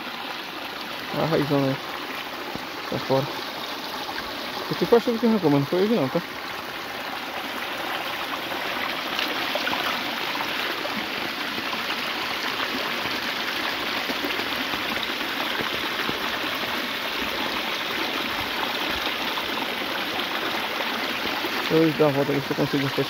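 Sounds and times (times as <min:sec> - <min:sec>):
water rushing down channel: 0:00.0 - 0:23.0.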